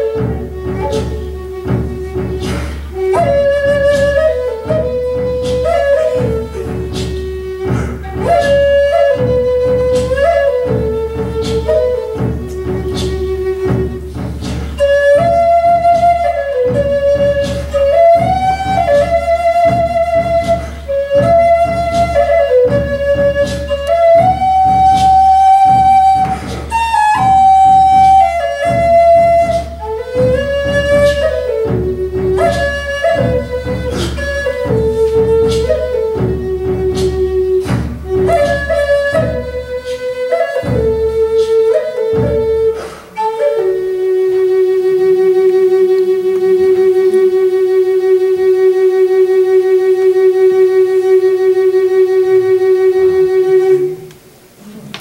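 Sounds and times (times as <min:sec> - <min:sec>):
wooden flute melody: 0:00.0 - 0:54.8
recorded accompaniment with steady pulse: 0:00.0 - 0:55.0.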